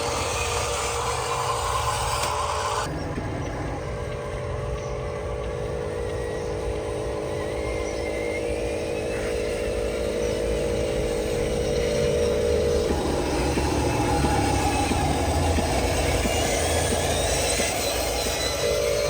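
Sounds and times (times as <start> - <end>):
high motor whine: 0.0 - 19.0
model truck motor hum: 0.0 - 19.0.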